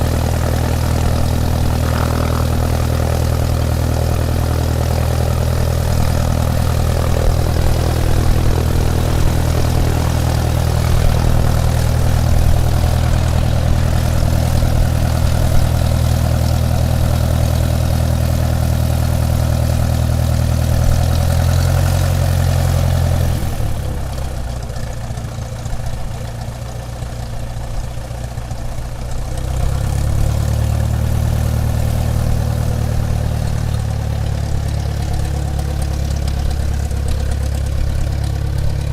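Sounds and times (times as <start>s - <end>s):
airplane engines running: 0.0s - 38.9s.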